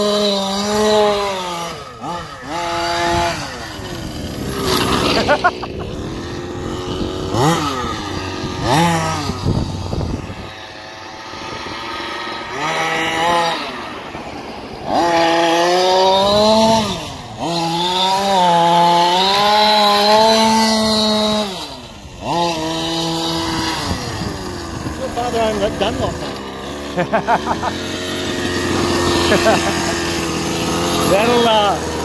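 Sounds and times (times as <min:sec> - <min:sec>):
model truck two-stroke engine revving: 0:00.0 - 0:32.0.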